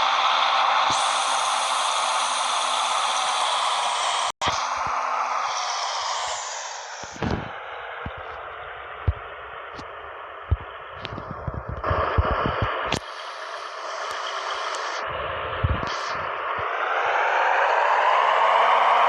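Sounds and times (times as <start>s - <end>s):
tractor running: 0.0s - 19.0s.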